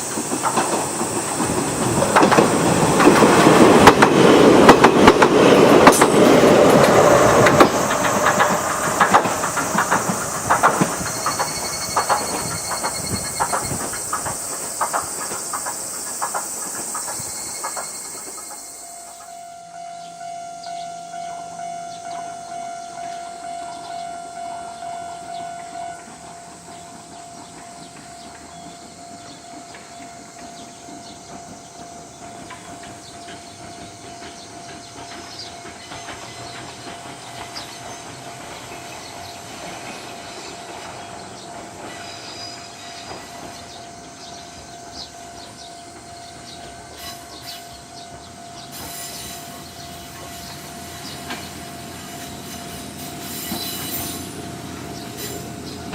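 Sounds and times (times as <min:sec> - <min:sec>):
wheels clicking over rail joints: 0:00.0 - 0:19.4, 0:23.0 - 0:55.9
electric train rumbling: 0:00.0 - 0:55.9.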